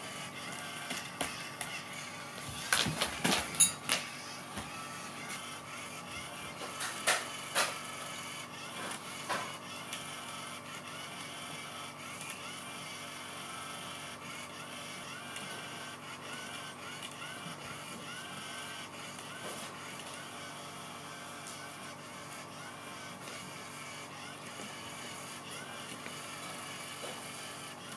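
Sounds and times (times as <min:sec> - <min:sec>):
toy motor whirring: 0:00.0 - 0:27.9.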